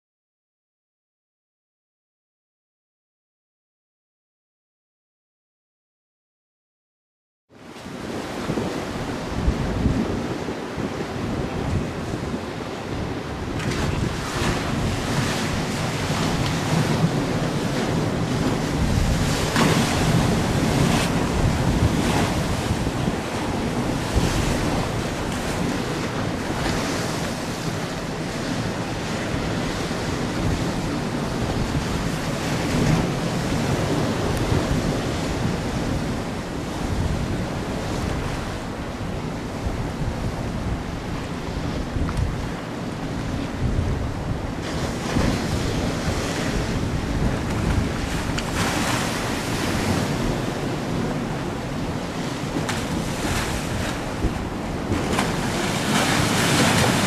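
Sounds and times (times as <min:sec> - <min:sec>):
waves slapping and splashing: 0:07.7 - 0:57.0
wind buffeting microphone: 0:07.8 - 0:57.0.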